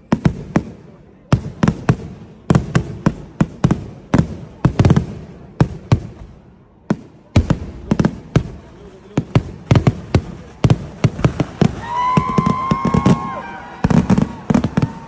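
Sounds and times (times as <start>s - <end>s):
fireworks bursting with loud bangs: 0.0s - 15.0s.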